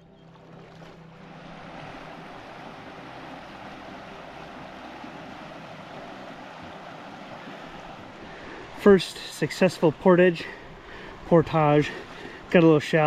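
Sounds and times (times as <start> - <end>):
creek running over rocks: 0.0 - 13.0.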